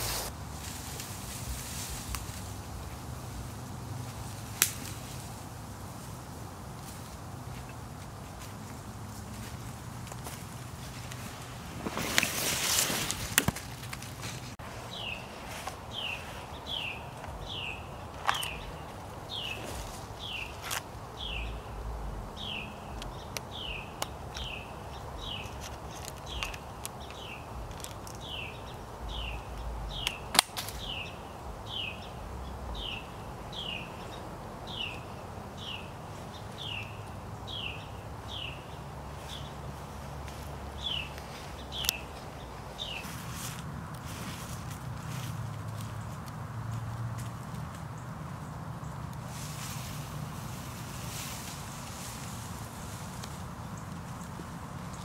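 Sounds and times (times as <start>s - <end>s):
faint outdoor hiss: 0.0s - 55.0s.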